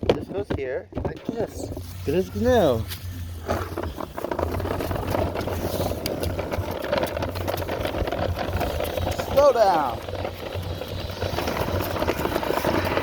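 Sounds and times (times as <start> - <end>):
plastic toy rattling over ground: 0.0 - 13.0.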